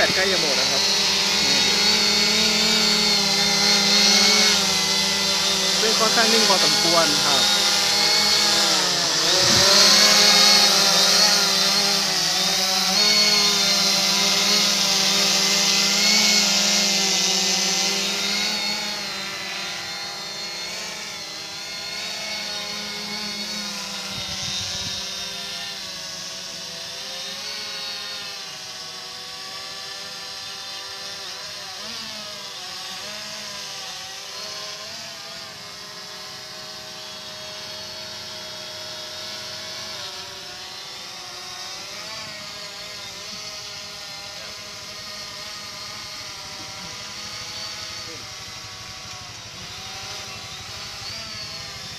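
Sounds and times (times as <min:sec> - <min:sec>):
drone propellers buzzing: 0:00.0 - 0:51.9.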